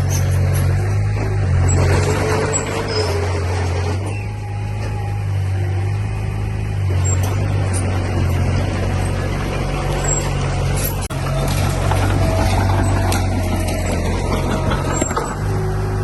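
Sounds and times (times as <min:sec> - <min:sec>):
heavy diesel engine under load: 0:00.0 - 0:16.0.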